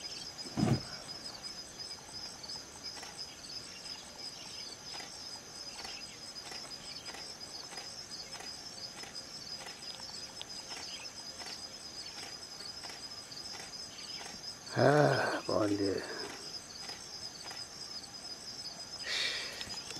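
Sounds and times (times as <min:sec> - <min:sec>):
insects trilling: 0:00.0 - 0:19.9.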